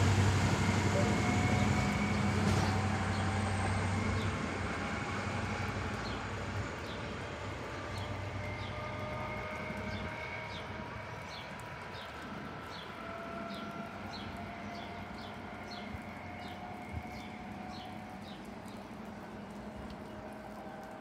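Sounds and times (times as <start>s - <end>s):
diesel train engine whine: 0.0s - 21.0s.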